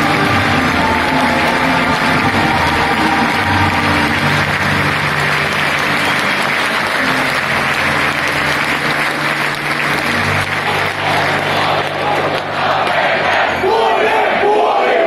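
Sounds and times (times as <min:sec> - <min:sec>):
crowd applauding and cheering: 0:00.0 - 0:14.6.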